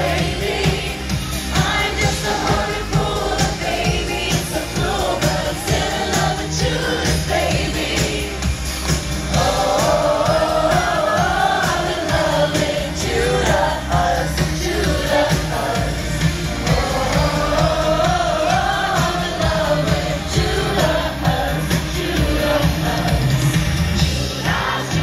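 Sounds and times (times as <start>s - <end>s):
bass-heavy pop beat: 0.0s - 25.0s.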